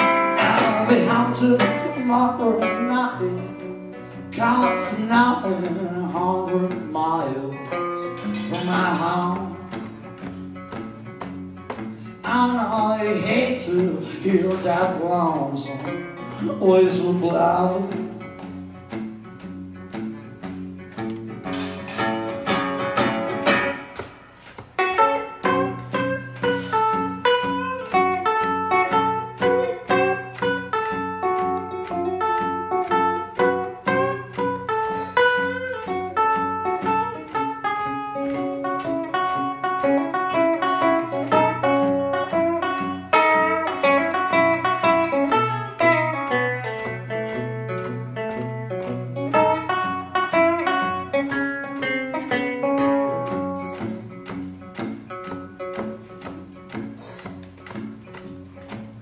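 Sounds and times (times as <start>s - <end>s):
acoustic guitar blues: 0.0s - 59.0s.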